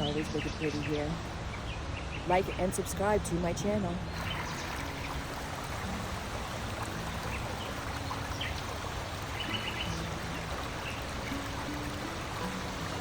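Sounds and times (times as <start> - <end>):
steady water-like rushing: 0.0 - 13.0.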